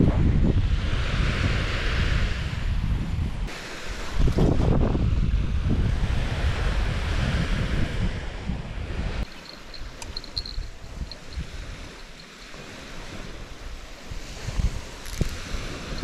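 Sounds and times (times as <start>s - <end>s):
small waves washing onto sand: 0.0s - 16.0s
wind buffeting microphone: 0.0s - 16.0s.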